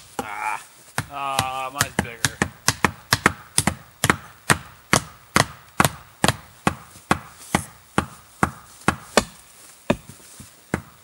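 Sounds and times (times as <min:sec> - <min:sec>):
axe pounding wooden stakes: 0:00.1 - 0:11.0.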